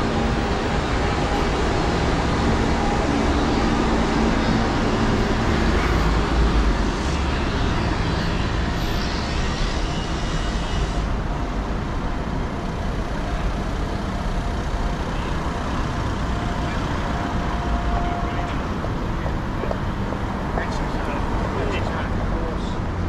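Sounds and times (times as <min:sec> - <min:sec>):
traffic passing: 0:00.0 - 0:23.0.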